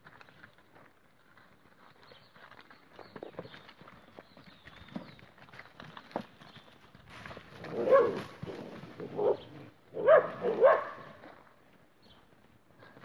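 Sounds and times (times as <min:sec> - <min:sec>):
hooves on dirt: 0:00.0 - 0:13.0.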